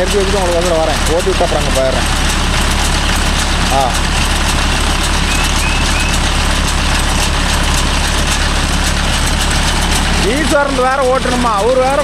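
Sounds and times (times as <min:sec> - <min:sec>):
tractor driving baler: 0:00.0 - 0:12.0.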